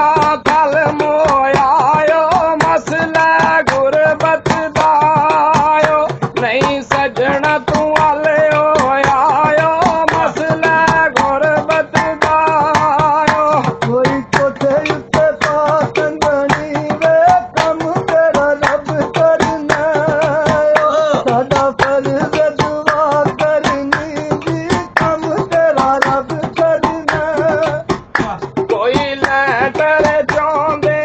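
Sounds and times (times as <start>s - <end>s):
person singing with wavering notes: 0.0s - 31.0s
quick busy percussion: 0.0s - 31.0s.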